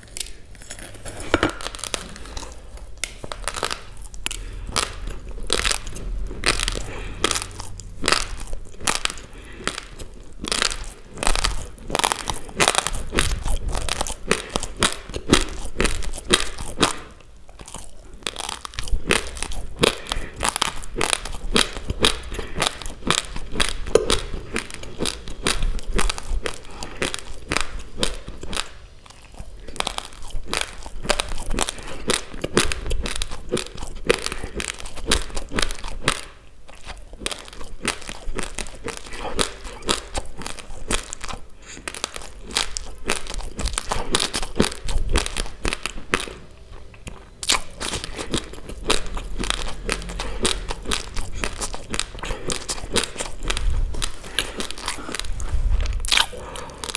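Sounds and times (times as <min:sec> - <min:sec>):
crunchy chewing of raw rice: 0:00.0 - 0:56.9.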